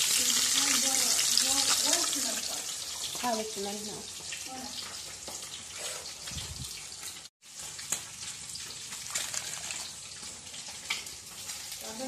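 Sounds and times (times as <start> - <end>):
pot of water boiling: 0.0 - 12.0.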